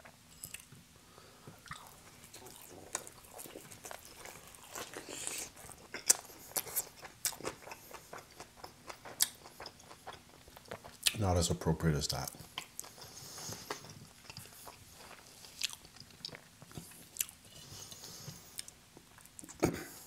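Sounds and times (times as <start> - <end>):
chewing crunches: 1.6 - 11.2, 12.3 - 19.6.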